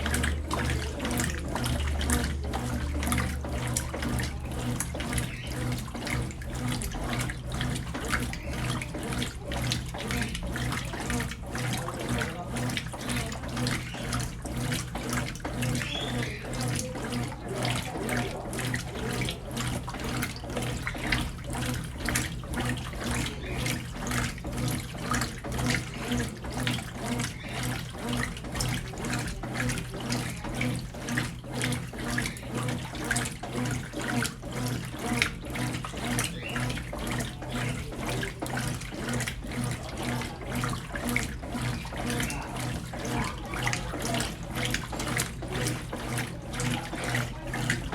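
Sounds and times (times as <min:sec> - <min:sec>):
washing machine motor hum: 0:00.0 - 0:47.9
washing machine water sloshing: 0:00.0 - 0:47.9.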